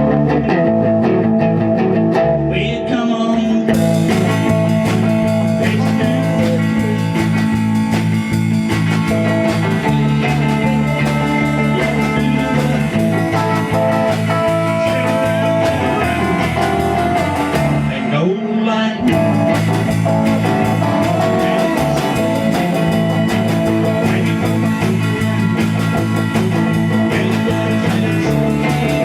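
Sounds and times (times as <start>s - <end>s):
rock band with electric guitar: 0.0s - 29.0s.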